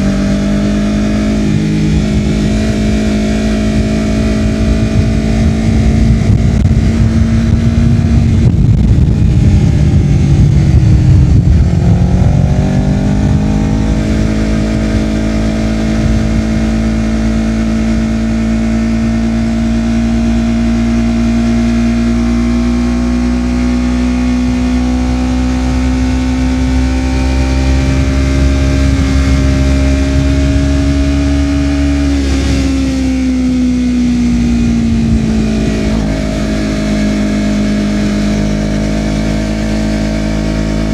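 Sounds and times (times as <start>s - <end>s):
motorcycle engine riding on road: 0.0s - 40.9s.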